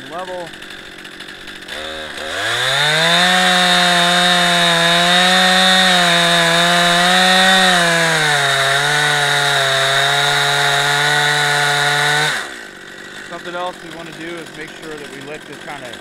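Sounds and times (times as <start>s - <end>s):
chainsaw cutting log: 0.0s - 16.0s.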